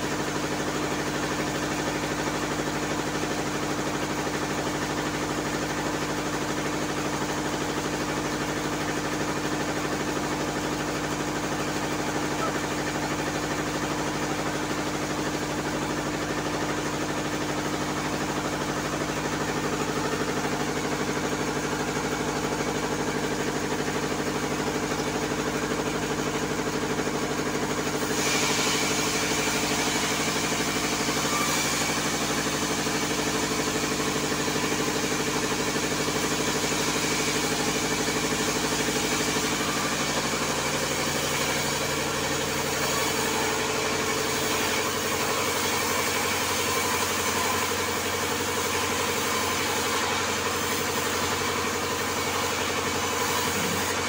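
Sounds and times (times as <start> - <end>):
band saw machine hum: 0.0 - 54.0
saw blade cutting log: 0.0 - 54.0.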